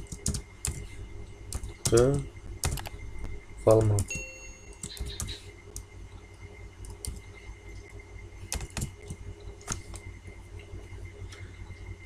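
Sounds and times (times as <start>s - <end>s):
low steady background hum: 0.0s - 12.0s.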